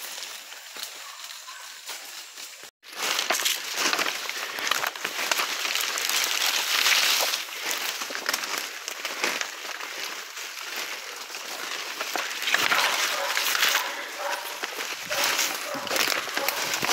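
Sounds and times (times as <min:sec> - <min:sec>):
footsteps crunching on dry leaves: 0:00.0 - 0:16.9.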